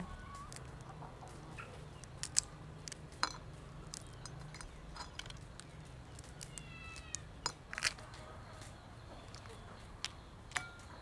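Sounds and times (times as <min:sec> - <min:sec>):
crab shells cracking: 0:00.5 - 0:11.0.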